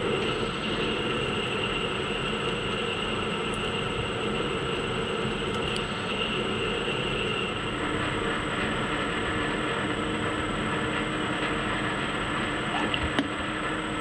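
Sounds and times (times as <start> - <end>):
faint high whine: 0.0 - 14.0
metal lathe running: 0.0 - 14.0.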